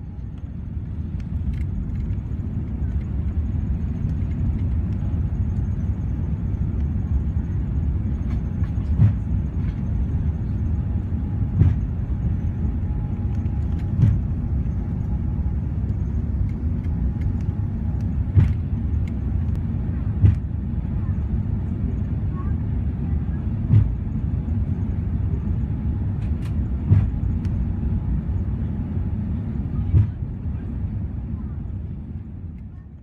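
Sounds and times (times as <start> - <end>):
aircraft cabin rumble: 0.0 - 33.0.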